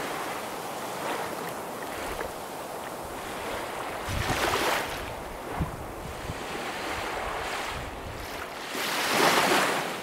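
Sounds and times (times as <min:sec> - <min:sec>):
wind rumbling on microphone: 0:00.0 - 0:09.9
waves on pebble shore: 0:00.0 - 0:10.0.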